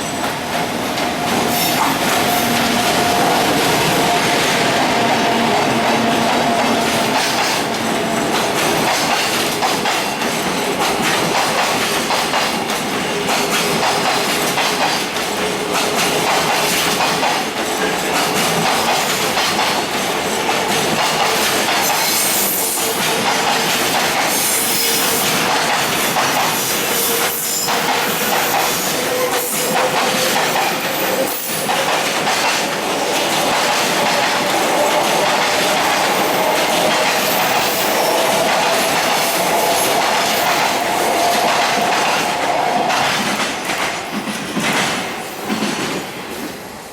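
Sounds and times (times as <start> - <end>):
freight train wheels clacking: 0.0 - 46.7.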